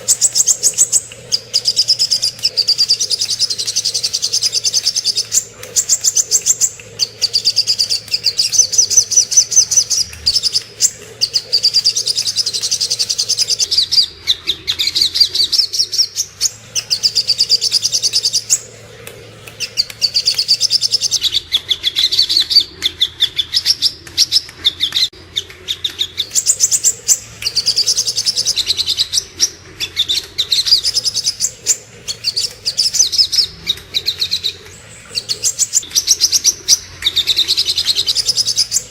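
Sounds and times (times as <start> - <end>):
bird singing high chattering trills: 0.0 - 18.8, 19.5 - 25.1, 26.0 - 38.9.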